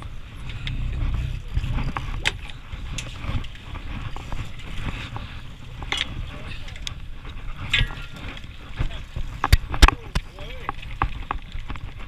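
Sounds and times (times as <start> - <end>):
boat engine low rumble: 0.0 - 12.0
fishing gear knocks and clicks: 0.3 - 12.0.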